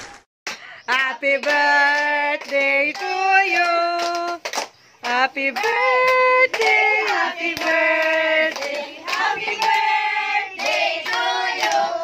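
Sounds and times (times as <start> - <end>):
hand claps: 0.5 - 9.9, 10.6 - 11.9
group singing: 0.9 - 4.4, 5.0 - 12.0.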